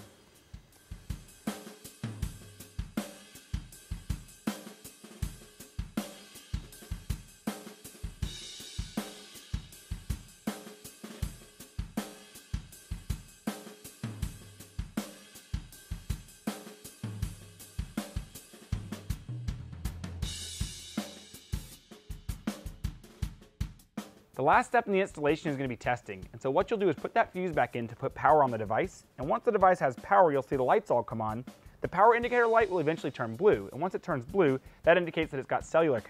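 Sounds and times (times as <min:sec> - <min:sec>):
drum-kit beat: 0:00.0 - 0:36.0.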